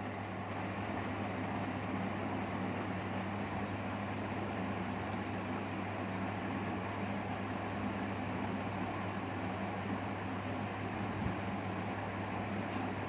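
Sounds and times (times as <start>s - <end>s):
fan blowing hiss: 0.0s - 13.0s.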